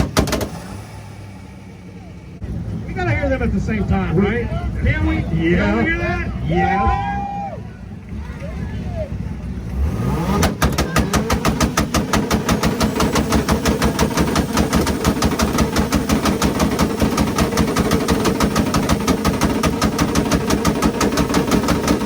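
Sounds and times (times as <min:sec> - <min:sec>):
car engines on rev limiter: 0:00.0 - 0:22.0
exhaust bangs and pops: 0:00.0 - 0:22.0.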